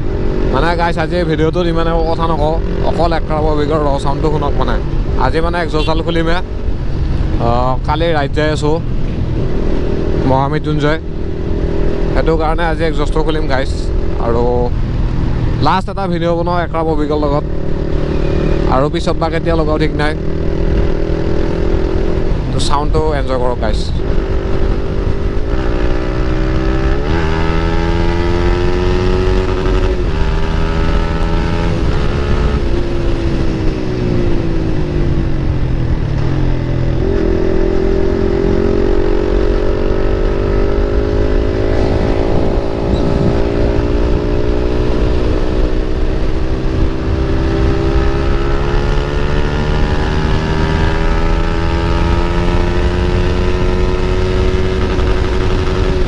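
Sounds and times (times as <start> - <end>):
motorcycle accelerating: 0.0 - 56.0.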